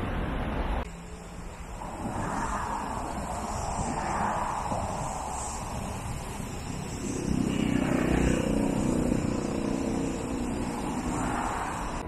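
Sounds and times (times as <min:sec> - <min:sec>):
vehicle engine passing: 0:01.8 - 0:12.0.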